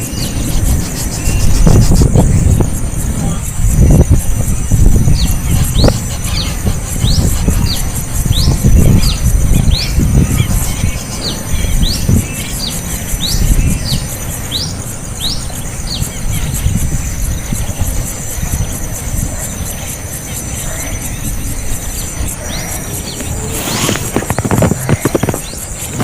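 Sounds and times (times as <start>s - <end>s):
small bird chirping: 0.0s - 26.0s
steady high hiss: 0.0s - 26.0s.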